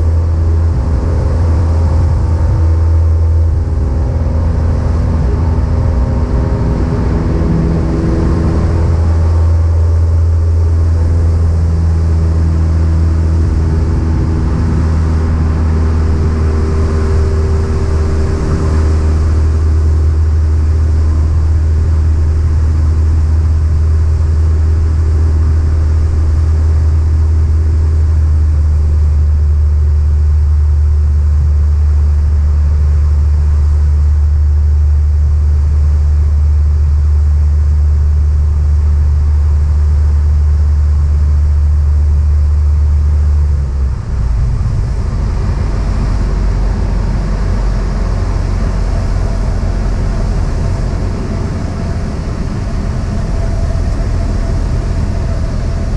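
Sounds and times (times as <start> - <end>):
propeller plane engine droning: 0.0 - 55.9.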